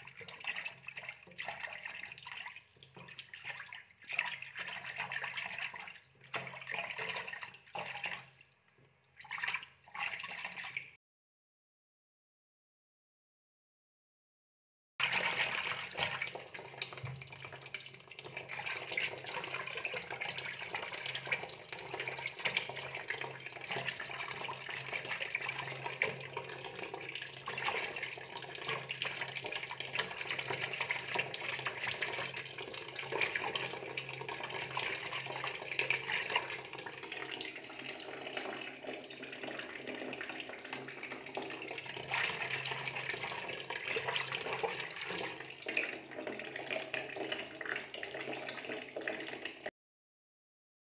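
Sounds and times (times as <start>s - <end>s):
water running and splashing: 0.0s - 8.5s, 15.0s - 49.7s.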